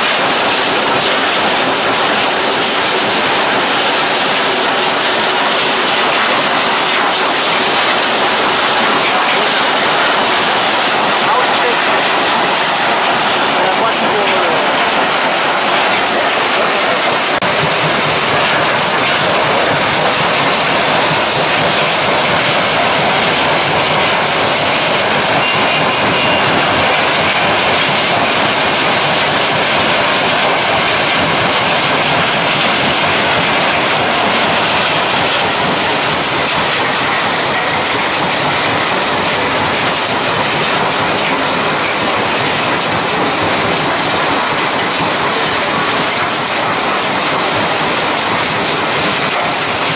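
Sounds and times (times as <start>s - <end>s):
stone crusher and conveyors running: 0.0s - 49.9s.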